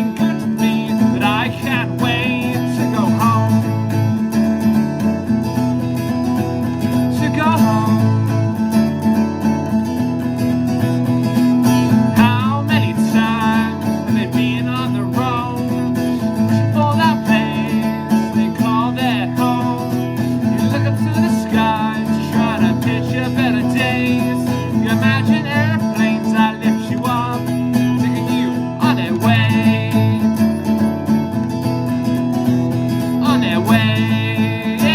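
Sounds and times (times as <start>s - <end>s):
acoustic guitar music: 0.0s - 34.9s.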